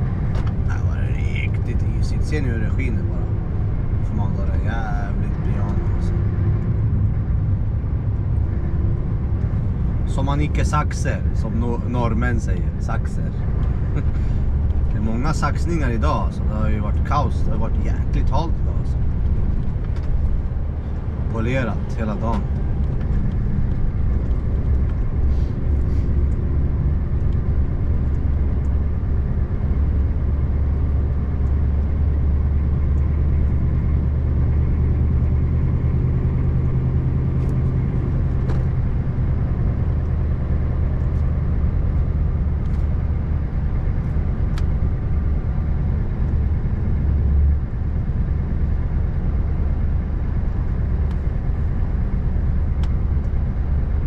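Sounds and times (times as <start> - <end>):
deeper engine tone: 0.0 - 54.0
truck engine droning: 0.0 - 54.0
tyre and road noise: 0.0 - 54.0.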